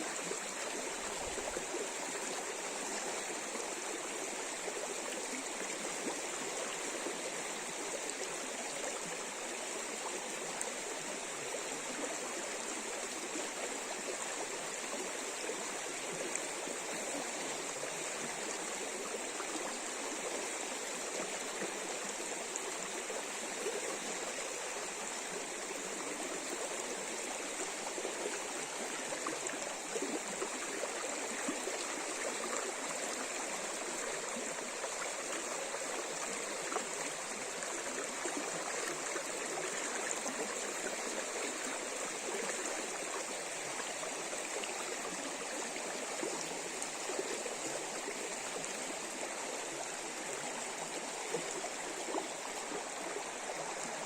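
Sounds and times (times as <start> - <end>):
river water rushing and gurgling: 0.0 - 54.0.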